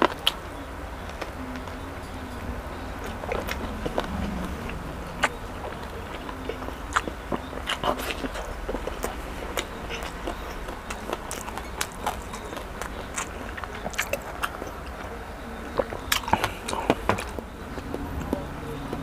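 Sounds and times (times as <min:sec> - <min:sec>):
chewing with wet mouth clicks: 0:00.0 - 0:02.4, 0:03.0 - 0:19.0.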